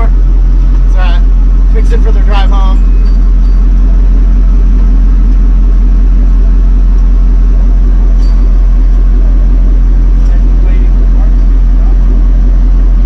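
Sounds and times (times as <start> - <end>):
truck engine running steadily: 0.0 - 13.0.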